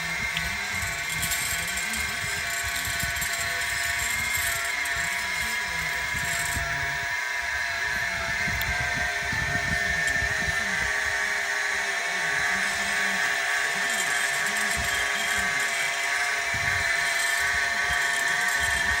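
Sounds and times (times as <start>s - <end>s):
cnc machine whining: 0.0s - 19.0s.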